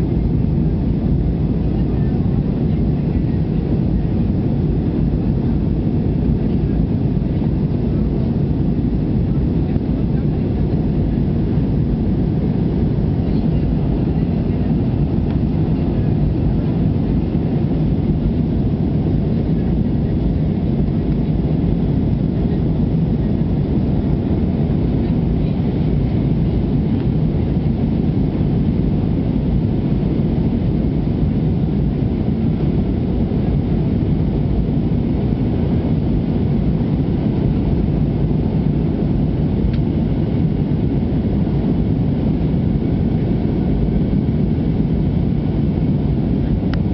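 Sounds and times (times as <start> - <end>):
jet engine cabin rumble: 0.0 - 46.9.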